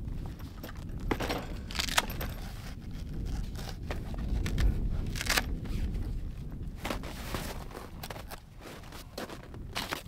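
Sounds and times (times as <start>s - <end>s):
steady low rumble: 0.0s - 10.0s
fabric rustling and scraping: 1.7s - 10.0s.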